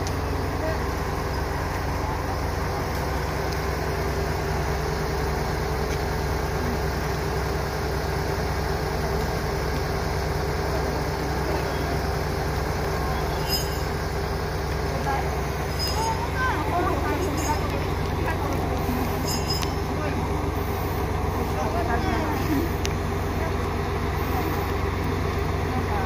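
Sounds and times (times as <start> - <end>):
diesel railcar engine idling: 0.0 - 26.0.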